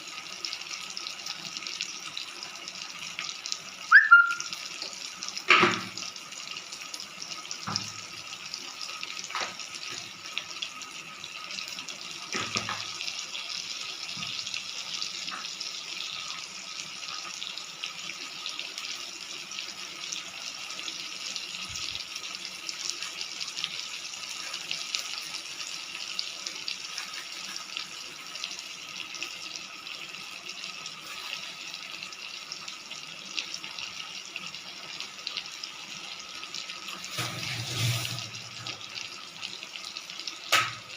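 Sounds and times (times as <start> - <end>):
curry sizzling in a pan: 0.0 - 40.9.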